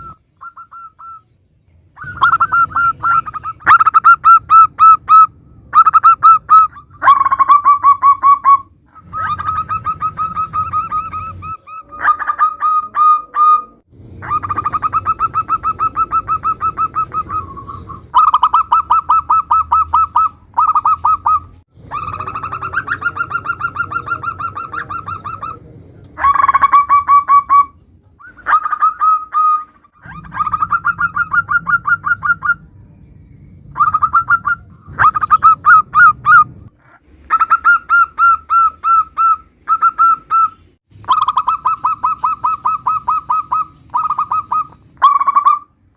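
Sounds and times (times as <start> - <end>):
doves cooing: 2.0 - 32.7, 33.6 - 45.7.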